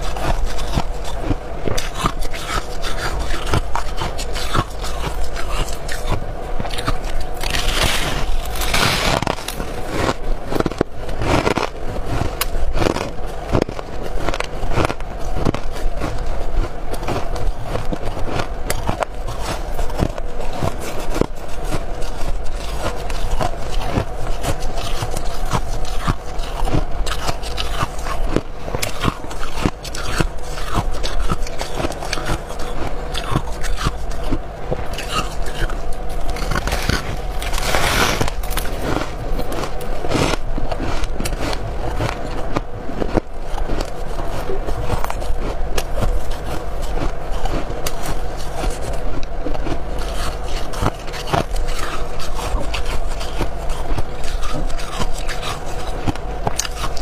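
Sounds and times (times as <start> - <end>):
chewing hard ice crunching: 0.0 - 57.0
steady low hum: 0.0 - 57.0.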